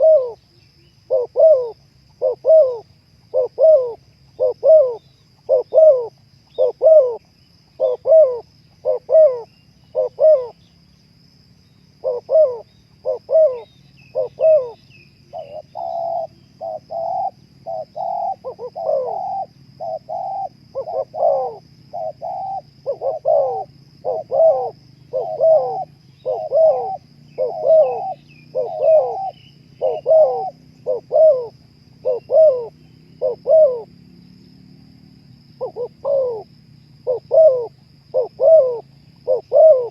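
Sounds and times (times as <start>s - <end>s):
doves cooing: 0.0s - 0.4s, 1.1s - 10.6s, 12.0s - 34.0s, 35.4s - 39.9s.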